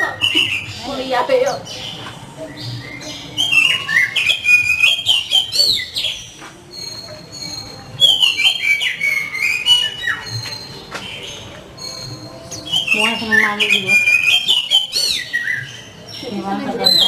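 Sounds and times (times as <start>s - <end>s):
bird singing whistled phrases: 0.0s - 17.0s.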